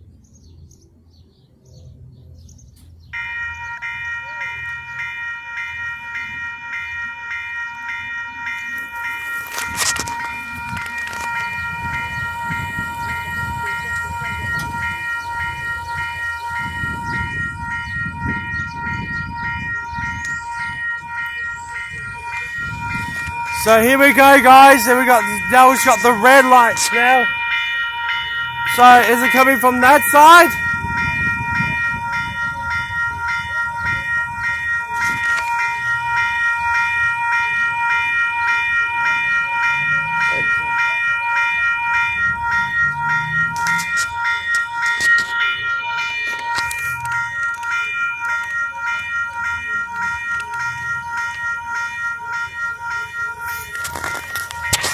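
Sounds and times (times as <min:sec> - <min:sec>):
level crossing bells ringing: 0:03.0 - 0:54.9.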